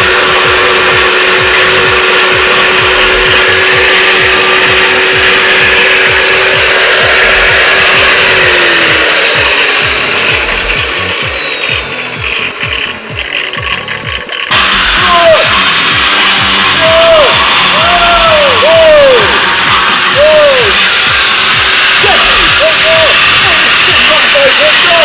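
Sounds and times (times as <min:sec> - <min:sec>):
motor spinning down: 0:00.0 - 0:25.0
power tool grinding: 0:00.0 - 0:25.0.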